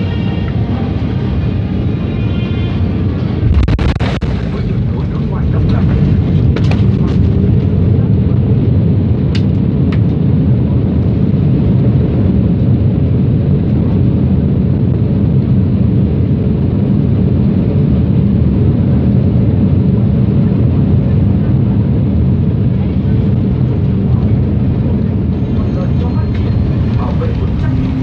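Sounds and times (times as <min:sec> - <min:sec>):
airliner engine roar: 0:00.0 - 0:28.0.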